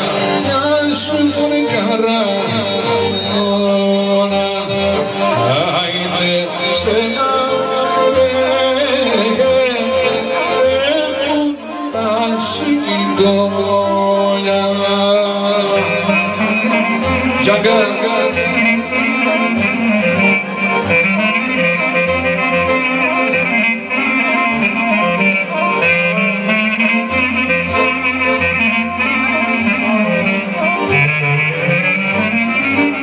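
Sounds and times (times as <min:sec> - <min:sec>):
folk band playing instrumental: 0:00.0 - 0:33.0.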